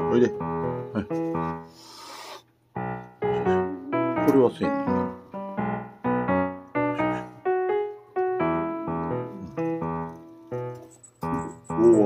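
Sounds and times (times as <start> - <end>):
slow piano melody: 0.0 - 1.9, 2.6 - 12.0.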